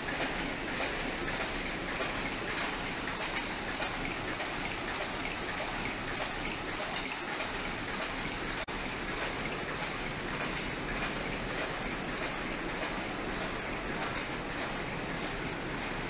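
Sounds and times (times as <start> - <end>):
machine clattering with rapid clicks: 0.0 - 16.0.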